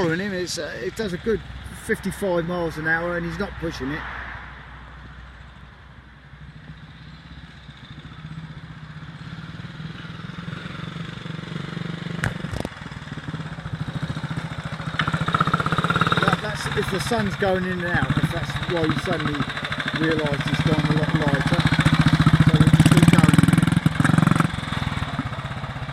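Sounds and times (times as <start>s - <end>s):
motorcycle engine running: 0.0s - 3.7s, 5.0s - 25.9s.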